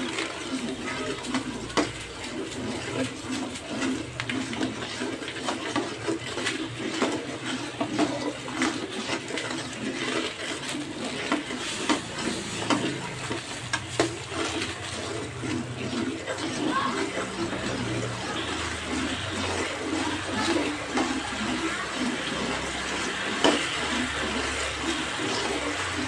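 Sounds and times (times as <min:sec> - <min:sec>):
metal spatula scraping a pan: 0:00.0 - 0:26.0
spice mixture frying in a wok: 0:00.0 - 0:26.0.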